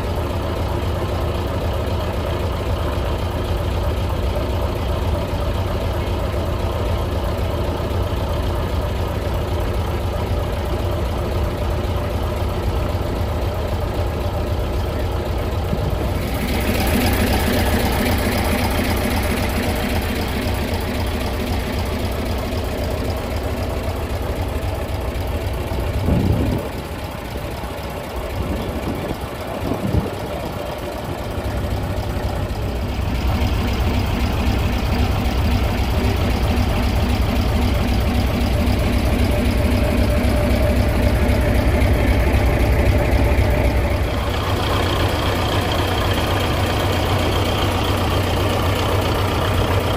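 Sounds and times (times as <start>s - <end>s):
truck engine idling: 0.0s - 49.9s.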